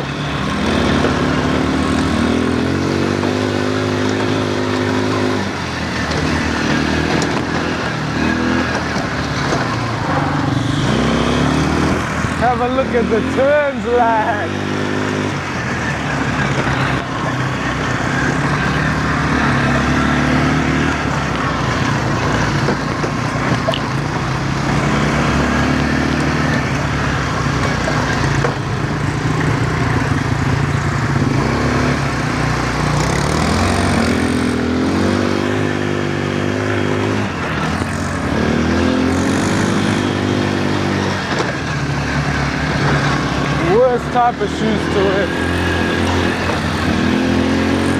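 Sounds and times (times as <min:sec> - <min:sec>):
quad bike engine revving: 0:00.0 - 0:47.9.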